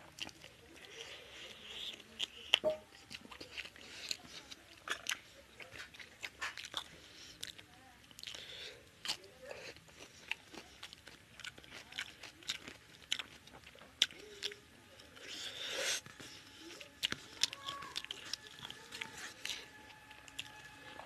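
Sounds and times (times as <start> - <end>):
food crunching: 0.0 - 21.0
person chewing with mouth smacks: 0.0 - 21.0.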